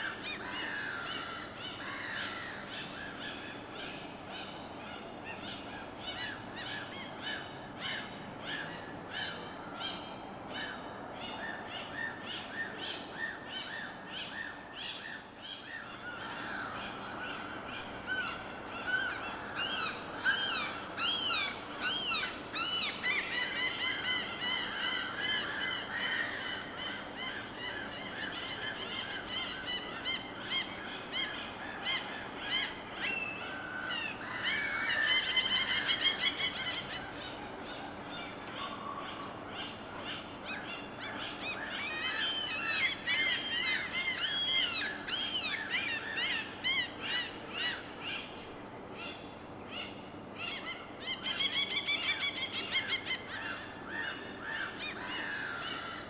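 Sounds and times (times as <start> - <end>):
birds calling: 5.2 - 56.0.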